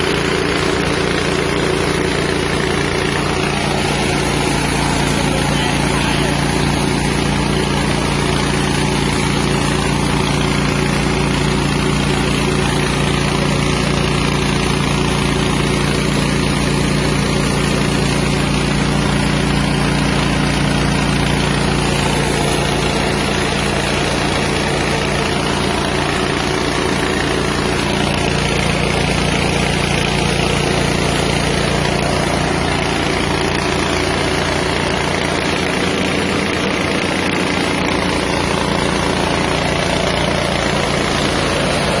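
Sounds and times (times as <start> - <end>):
engine drone: 0.0 - 42.0
rice milling mechanism: 0.0 - 42.0.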